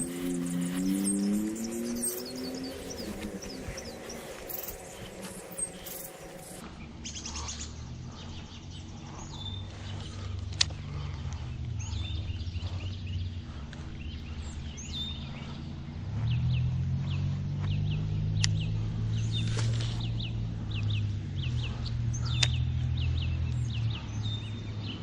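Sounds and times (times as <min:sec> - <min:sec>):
birds chirping: 0:00.0 - 0:25.0
low steady rumble: 0:00.0 - 0:25.0.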